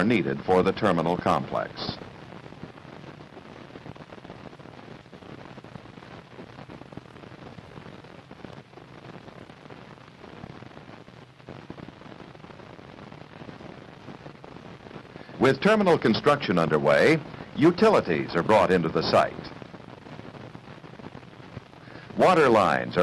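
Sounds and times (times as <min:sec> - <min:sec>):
film soundtrack hiss and crackle: 0:00.0 - 0:23.0.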